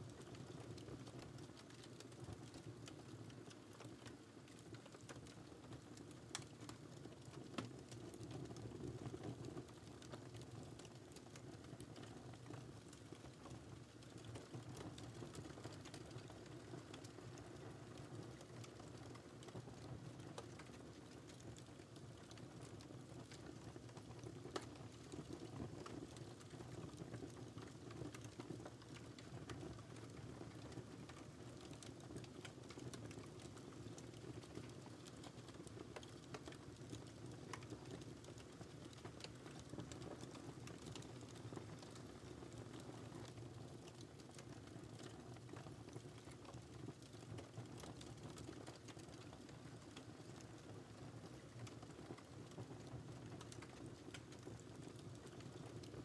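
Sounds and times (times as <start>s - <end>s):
wood fire crackling: 0.1s - 56.0s.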